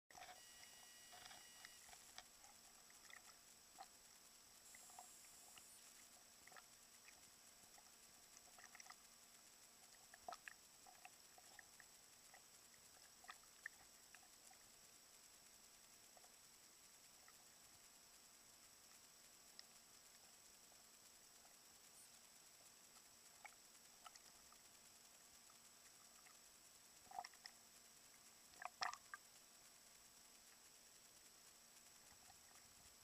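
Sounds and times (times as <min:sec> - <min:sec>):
thin high whine: 0:00.1 - 0:26.8
faint steady hiss: 0:00.1 - 0:33.0
faint ticks and clicks: 0:00.1 - 0:33.0.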